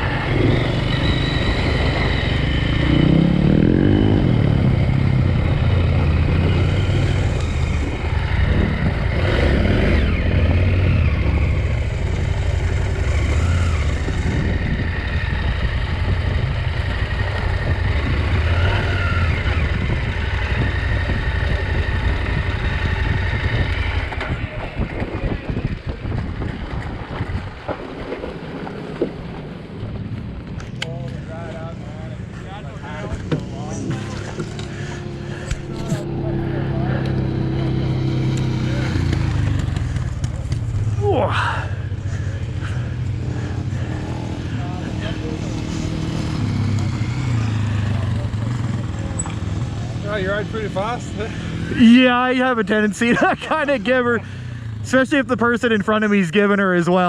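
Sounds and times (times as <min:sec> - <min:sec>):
motorcycle engine running: 0:00.0 - 0:55.8.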